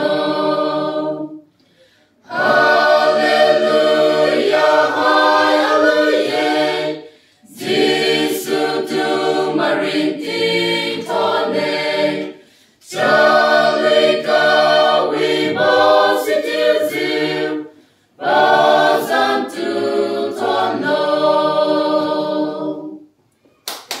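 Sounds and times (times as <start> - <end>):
choir singing a hymn: 0.0 - 1.6, 2.2 - 23.1.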